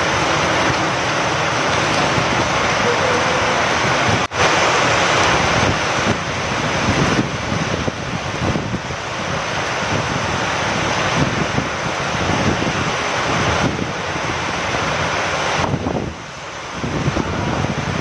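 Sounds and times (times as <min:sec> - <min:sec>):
rain falling with wind: 0:00.0 - 0:18.0.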